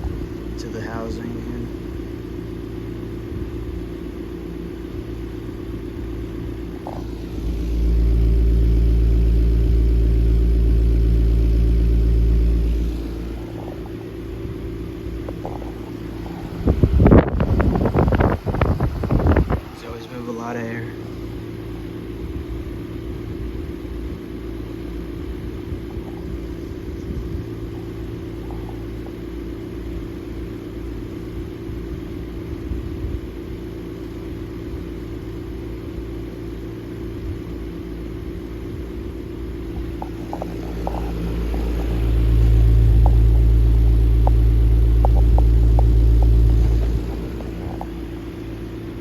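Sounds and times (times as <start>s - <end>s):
table fan motor hum: 0.0s - 33.6s, 38.7s - 49.0s
fan airflow buffeting microphone: 0.0s - 49.0s.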